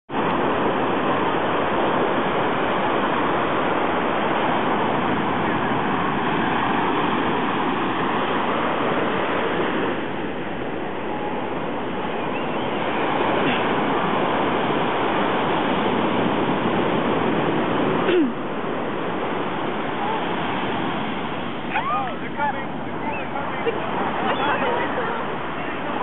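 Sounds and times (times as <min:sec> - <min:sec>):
surf rushing: 0:00.1 - 0:26.0
wind: 0:00.1 - 0:26.0.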